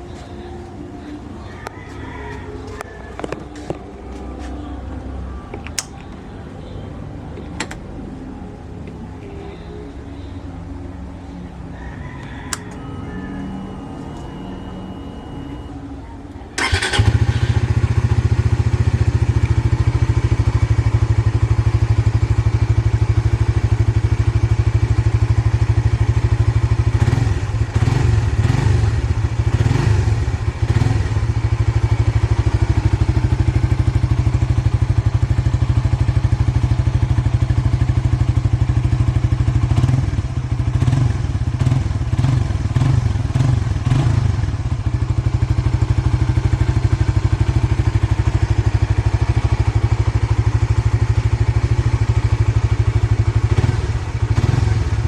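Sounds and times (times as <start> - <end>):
motorcycle engine starting and idling: 5.5 - 6.7, 7.4 - 8.2, 12.2 - 55.0.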